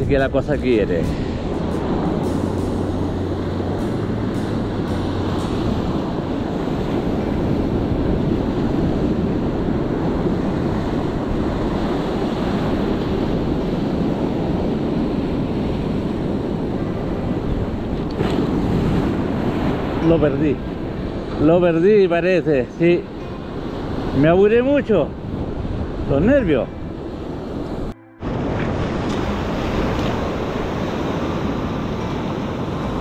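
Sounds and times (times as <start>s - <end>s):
wind on microphone: 0.0s - 21.4s, 22.5s - 33.0s
ocean surf washing ashore: 0.0s - 33.0s.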